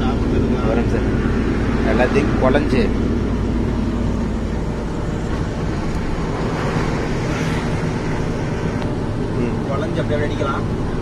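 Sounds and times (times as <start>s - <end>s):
lorry diesel engine rumbling: 0.0s - 11.0s.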